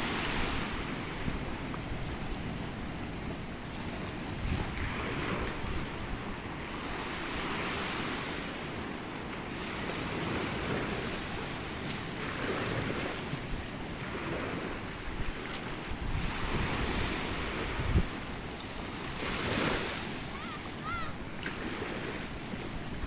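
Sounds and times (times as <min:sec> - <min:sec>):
wind buffeting microphone: 0:00.0 - 0:08.2, 0:09.9 - 0:23.0
sea surf washing: 0:00.0 - 0:23.0.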